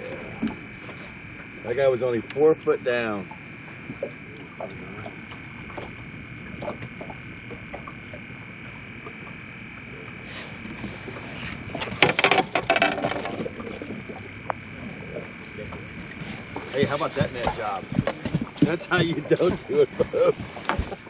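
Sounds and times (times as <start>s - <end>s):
frogs calling: 0.0s - 21.0s.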